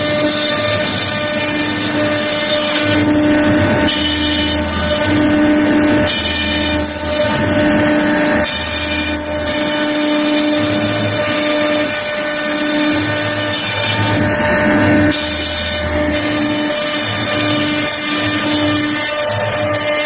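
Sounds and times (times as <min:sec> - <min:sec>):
router spindle whine and hiss: 0:00.0 - 0:20.0.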